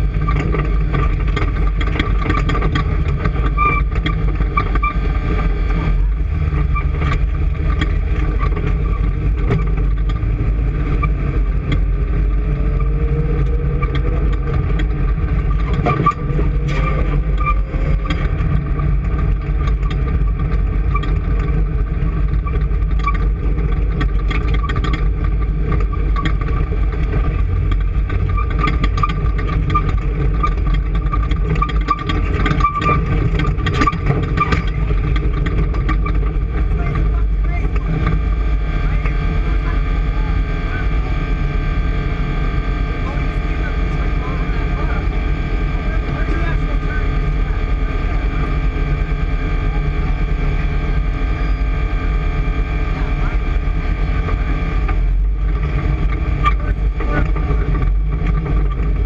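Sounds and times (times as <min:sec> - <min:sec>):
engine rumbling with whine: 0:00.0 - 0:59.0.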